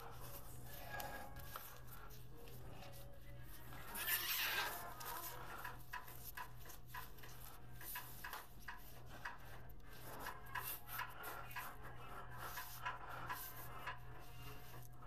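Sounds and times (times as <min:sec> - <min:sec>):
cables brushing and ticking: 0:00.0 - 0:15.0.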